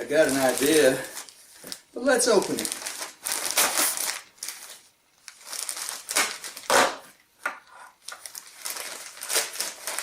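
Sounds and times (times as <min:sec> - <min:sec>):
wrapping crunch: 0:00.0 - 0:07.0, 0:08.0 - 0:10.0
package wrapping crinkling: 0:00.0 - 0:07.2, 0:07.9 - 0:10.0.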